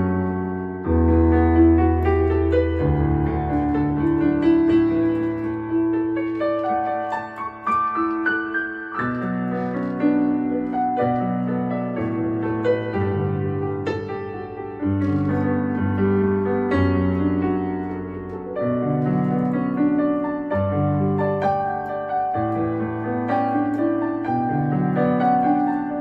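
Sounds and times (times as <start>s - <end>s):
synthesizer piano chords and melody: 0.0s - 26.0s.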